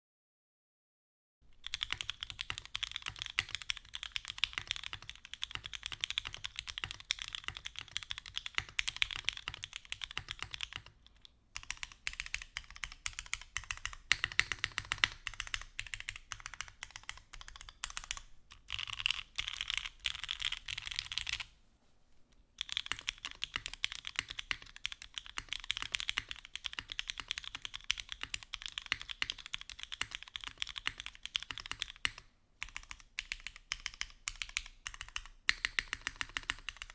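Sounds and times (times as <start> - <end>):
mechanical keyboard keystroke clacks: 1.6 - 21.4, 22.6 - 36.9.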